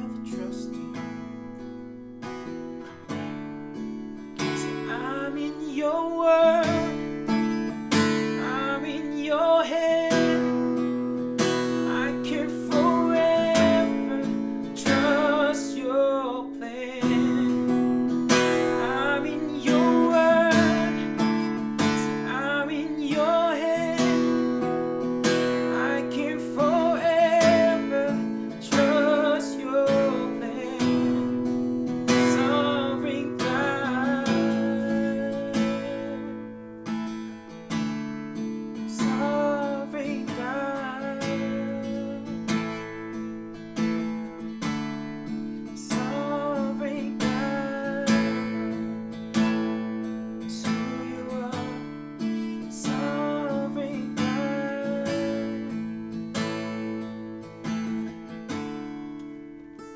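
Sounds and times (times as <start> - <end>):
acoustic guitar strumming chords: 0.0 - 59.9.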